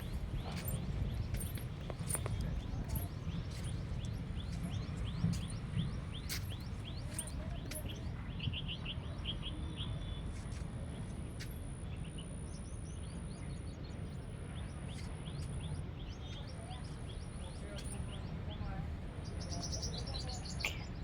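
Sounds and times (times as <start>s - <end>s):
small birds chirping: 0.0s - 11.1s, 12.0s - 21.0s
steady low rumble: 0.0s - 20.5s.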